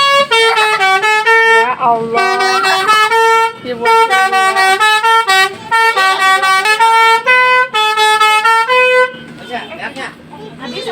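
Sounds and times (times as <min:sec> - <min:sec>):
multi-tone bus horn melody: 0:00.0 - 0:10.2.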